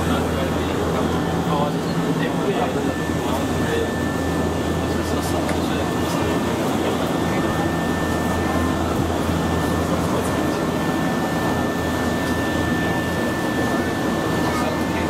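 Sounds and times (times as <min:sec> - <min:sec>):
train interior hum and whine: 0:00.0 - 0:15.0.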